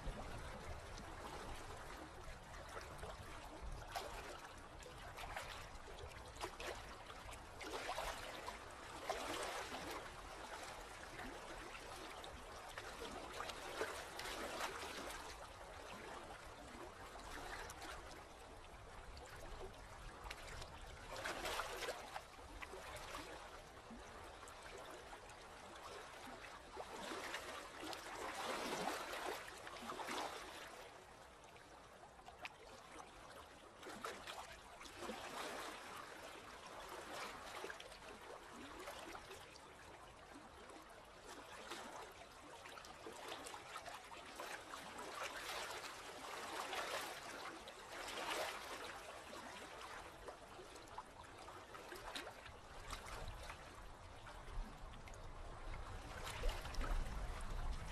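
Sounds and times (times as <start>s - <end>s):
sea water lapping softly: 0.0s - 57.9s.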